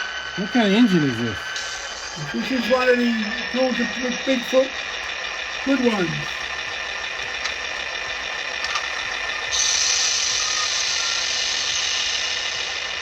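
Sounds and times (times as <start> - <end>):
diesel engine through small speaker: 0.0 - 13.0.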